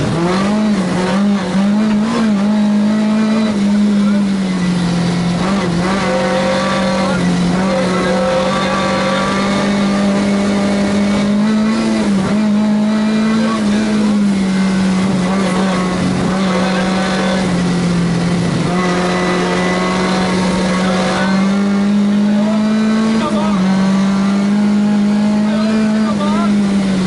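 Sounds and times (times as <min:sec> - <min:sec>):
race car engine revving high: 0:00.0 - 0:27.0.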